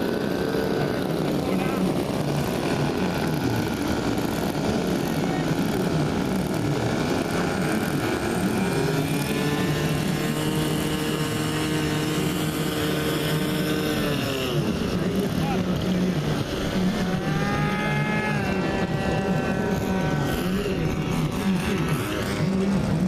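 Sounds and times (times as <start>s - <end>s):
model airplane propeller engines: 0.0s - 23.0s.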